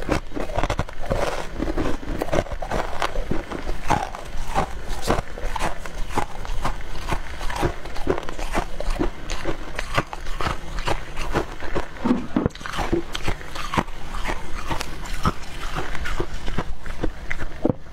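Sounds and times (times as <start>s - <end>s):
chewing crunchy ice: 0.0s - 17.9s.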